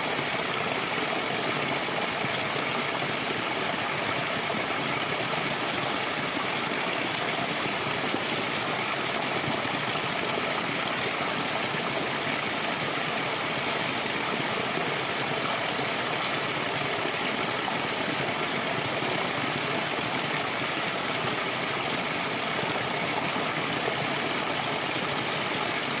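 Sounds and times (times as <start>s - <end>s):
water rushing like a stream: 0.0s - 26.0s.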